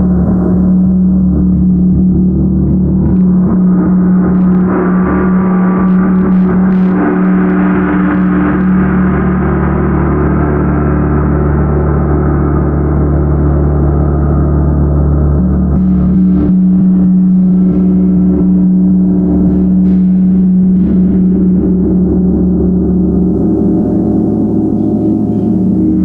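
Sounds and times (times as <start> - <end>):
gong humming wash: 0.0 - 26.0.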